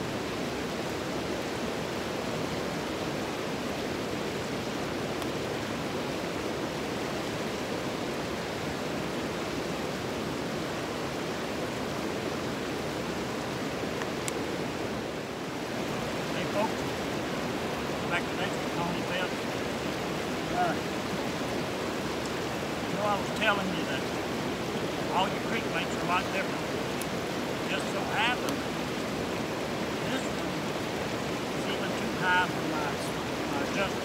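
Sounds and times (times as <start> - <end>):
creek rushing over rocks: 0.0 - 34.0.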